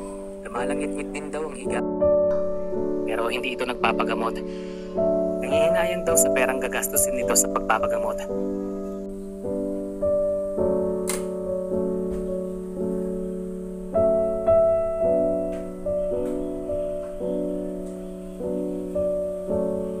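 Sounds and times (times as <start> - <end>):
piano chords and notes: 0.0 - 20.0.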